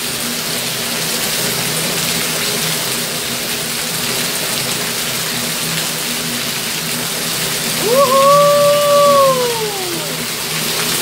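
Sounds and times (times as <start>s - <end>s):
rain splashing on pavement: 0.0s - 11.0s.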